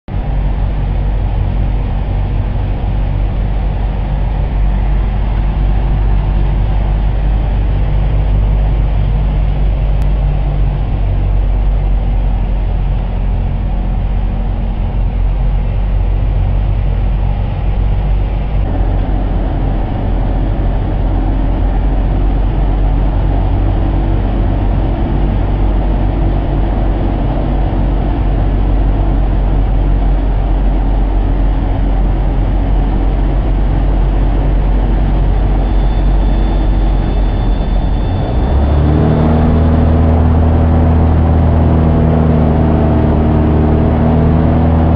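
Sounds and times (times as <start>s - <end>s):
light aircraft engine and propeller: 0.1s - 44.9s
rushing airflow: 0.1s - 44.9s.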